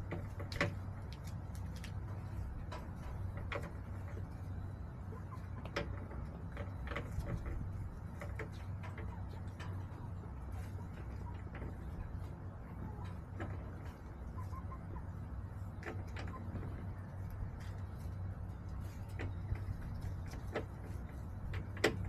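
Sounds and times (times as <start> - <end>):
hens pecking and shuffling: 0.0 - 22.0
steady low hum: 0.0 - 22.0.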